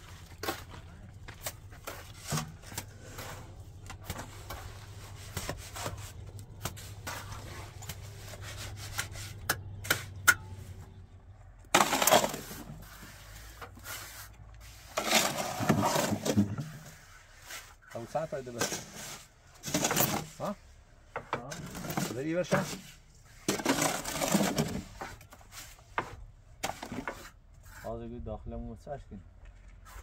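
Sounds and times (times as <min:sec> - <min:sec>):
rasping scrapes: 0:01.4 - 0:10.2, 0:11.8 - 0:20.6, 0:21.5 - 0:28.0.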